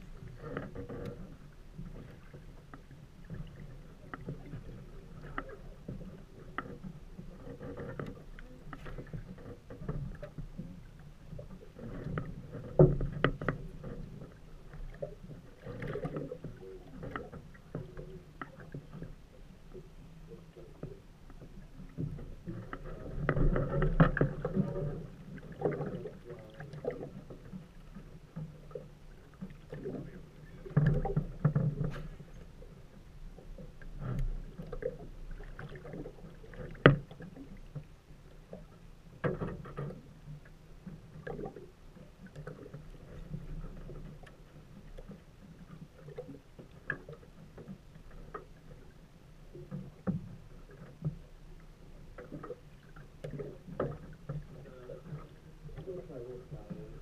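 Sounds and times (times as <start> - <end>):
water slapping against boat hull: 0.0 - 19.8, 20.5 - 37.9, 38.5 - 57.0
knocks and clunks in boat: 0.0 - 57.0.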